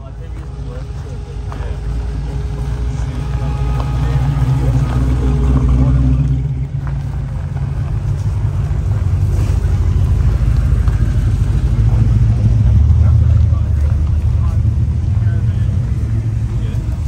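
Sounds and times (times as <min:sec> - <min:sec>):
car engine pulling away: 0:00.0 - 0:17.0
pickup truck engine passing: 0:00.0 - 0:17.0.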